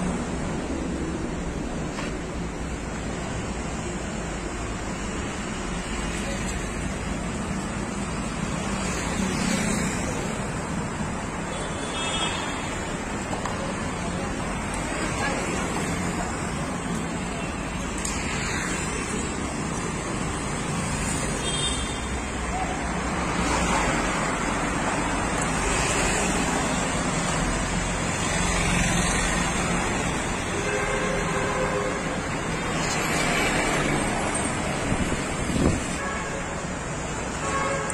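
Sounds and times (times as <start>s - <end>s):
road traffic rumble: 0.0s - 37.9s.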